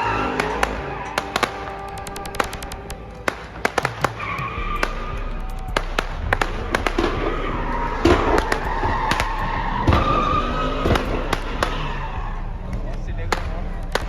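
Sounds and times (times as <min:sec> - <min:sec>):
car tyres squealing: 0:00.0 - 0:14.0
firecrackers cracking: 0:00.0 - 0:14.0.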